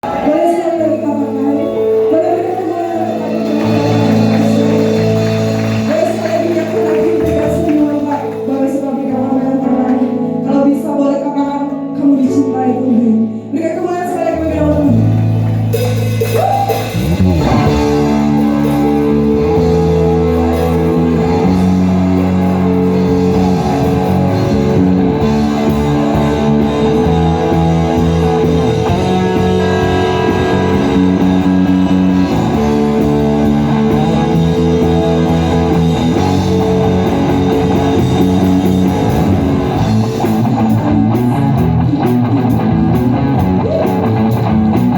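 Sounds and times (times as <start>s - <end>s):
person singing: 0.0s - 15.1s, 16.3s - 37.8s
bass guitar: 0.0s - 44.9s
electric guitar: 0.0s - 44.9s
worship band playing: 0.0s - 44.9s.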